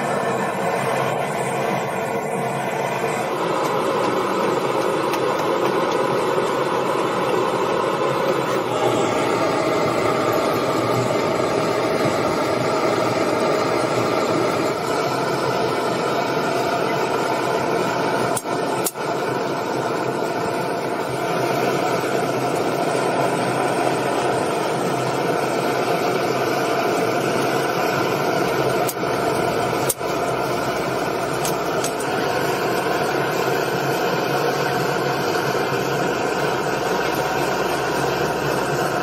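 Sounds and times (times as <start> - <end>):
workshop machinery roaring: 0.0 - 39.0.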